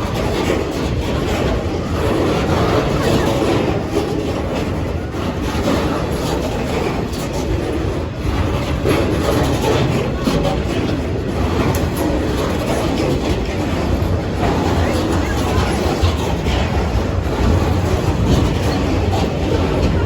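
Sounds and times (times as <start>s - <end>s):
train rumble: 0.0s - 20.0s
train wheels clicking over rail joints: 0.0s - 20.0s.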